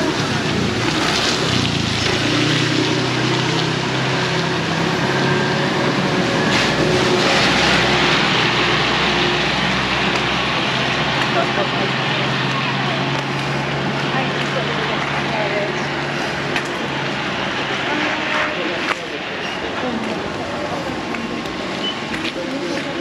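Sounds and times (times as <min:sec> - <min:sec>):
heavy rain pouring: 0:00.0 - 0:23.0
motor vehicle engine hum: 0:00.0 - 0:23.0.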